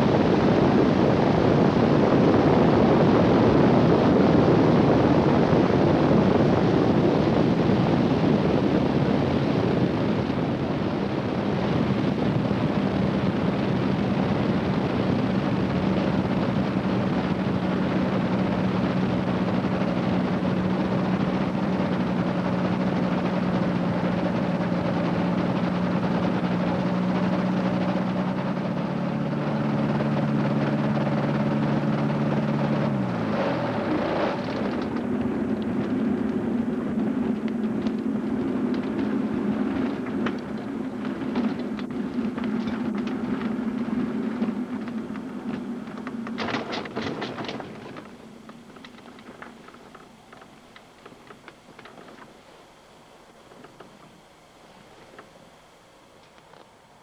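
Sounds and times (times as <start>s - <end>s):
wind rushing over microphone: 0.0s - 51.8s
two-stroke engine running: 0.0s - 57.0s.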